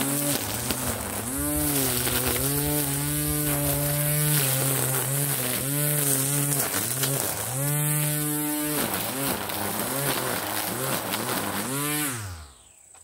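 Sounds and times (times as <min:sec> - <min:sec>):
string trimmer running: 0:00.0 - 0:13.0.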